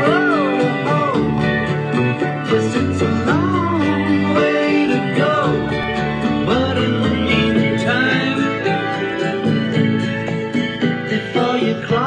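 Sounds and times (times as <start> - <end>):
country-style music: 0.0 - 12.0.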